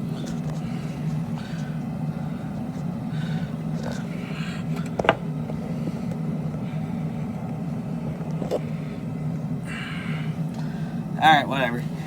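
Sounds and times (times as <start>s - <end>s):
forge humming: 0.0s - 12.0s.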